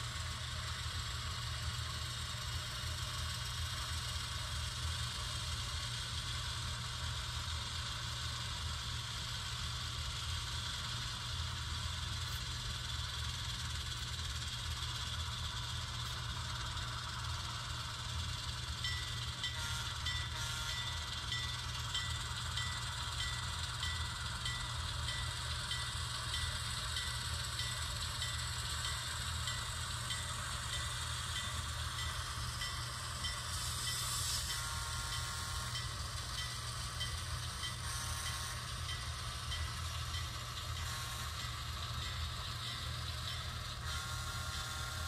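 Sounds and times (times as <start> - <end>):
model diesel locomotive sound: 0.0 - 45.0.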